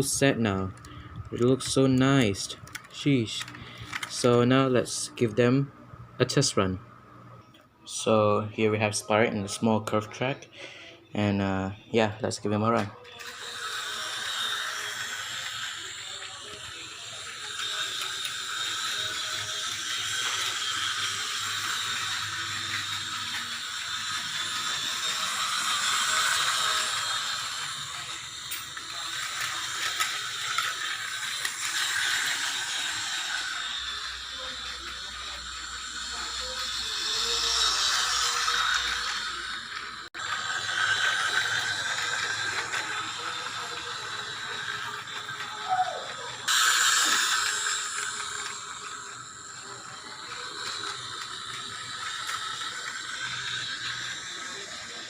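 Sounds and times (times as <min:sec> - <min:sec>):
toy train motor whirring: 0:00.0 - 0:06.6, 0:12.4 - 0:55.0.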